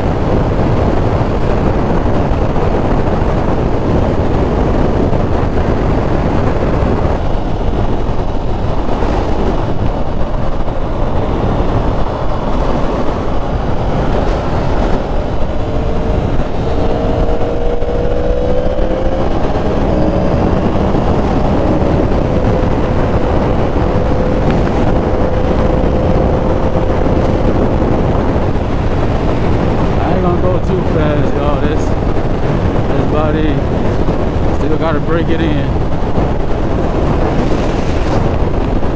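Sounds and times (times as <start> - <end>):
motorcycle engine droning: 0.0 - 38.9
wind rush on microphone: 0.0 - 38.9.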